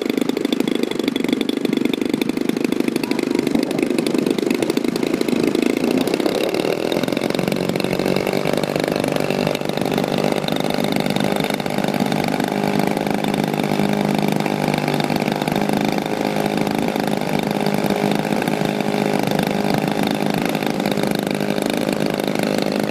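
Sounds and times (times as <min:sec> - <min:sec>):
model plane engine buzzing: 0:00.0 - 0:22.9.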